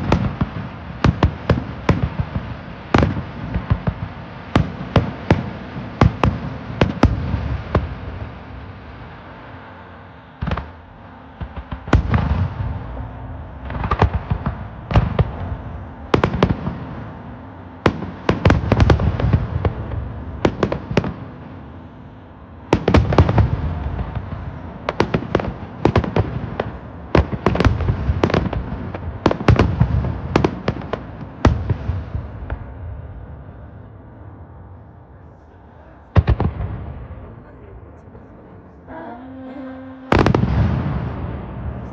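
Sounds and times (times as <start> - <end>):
fireworks bursting: 0.0 - 9.2, 10.4 - 21.8, 22.6 - 33.8, 35.4 - 41.9
rumbling echo: 0.0 - 41.9.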